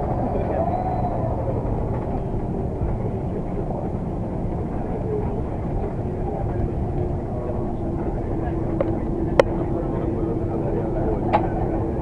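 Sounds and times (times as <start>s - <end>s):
deep rumble of aircraft engines: 0.0s - 12.0s.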